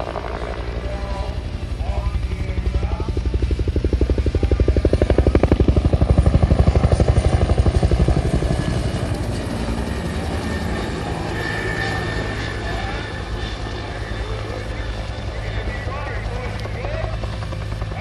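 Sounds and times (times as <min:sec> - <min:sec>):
faint helicopter drone: 0:00.0 - 0:18.0
helicopter rotor blade slap: 0:00.0 - 0:18.0.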